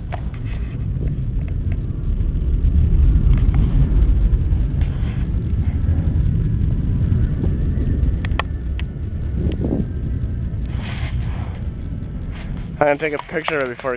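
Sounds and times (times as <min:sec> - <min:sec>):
distant turboprop aircraft rumble: 0:00.0 - 0:13.9.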